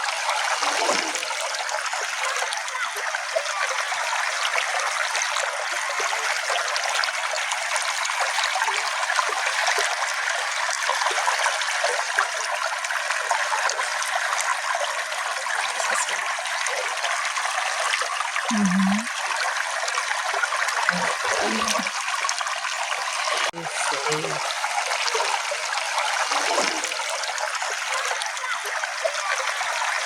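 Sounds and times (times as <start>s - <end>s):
small stream babbling: 0.0s - 30.0s.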